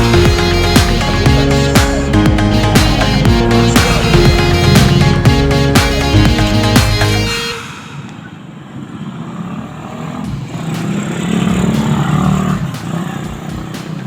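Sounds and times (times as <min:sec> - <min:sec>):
vehicle passing: 0:02.0 - 0:14.0.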